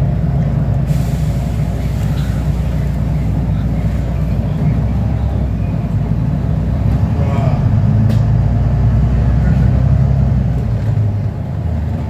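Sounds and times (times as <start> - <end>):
bus engine rumble from inside: 0.0 - 12.0.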